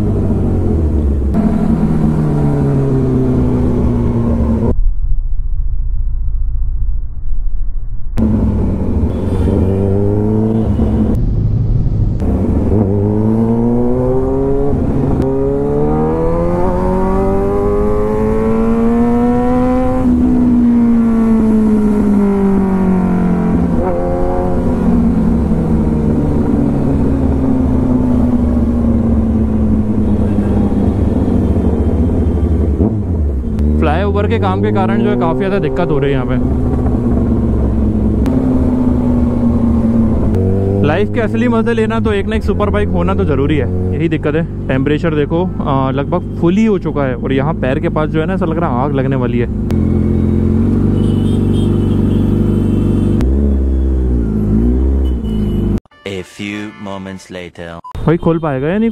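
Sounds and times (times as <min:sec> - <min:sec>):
motorcycle engine accelerating: 0:00.0 - 0:04.8, 0:08.1 - 0:55.8.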